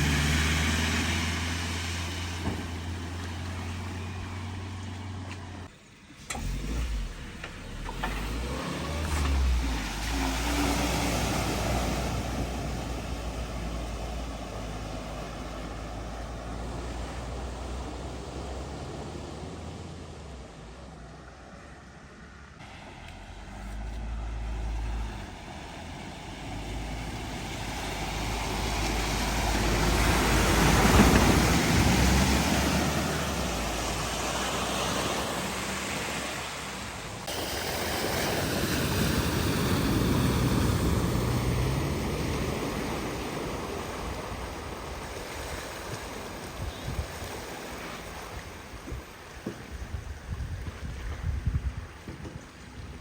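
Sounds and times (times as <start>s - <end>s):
low engine rumble: 0.0s - 53.0s
water spray from wheels: 0.0s - 53.0s.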